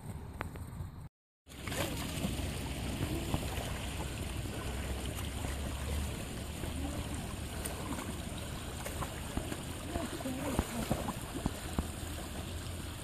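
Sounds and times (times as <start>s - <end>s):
faint splashes of wading: 1.5s - 13.0s
stream running over stones: 1.5s - 13.0s.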